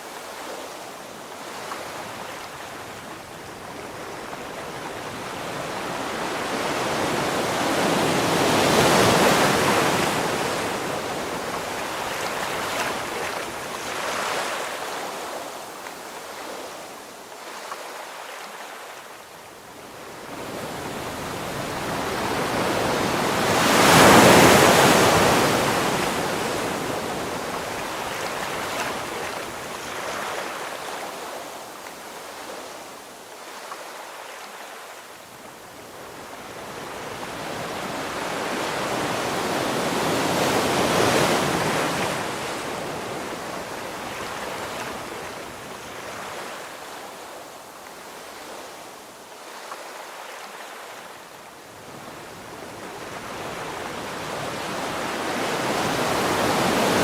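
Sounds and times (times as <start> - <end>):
ocean waves breaking: 0.0 - 19.0, 20.0 - 35.0, 36.0 - 57.0.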